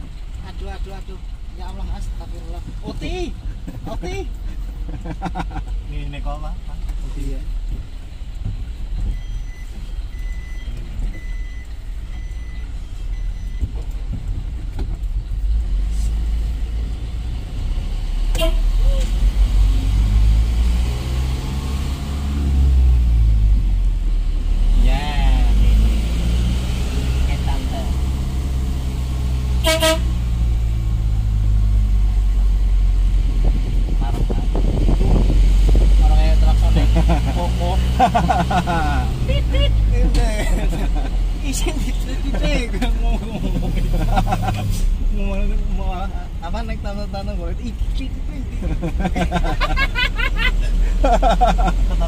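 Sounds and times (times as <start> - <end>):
truck engine low drone: 6.6 - 52.0.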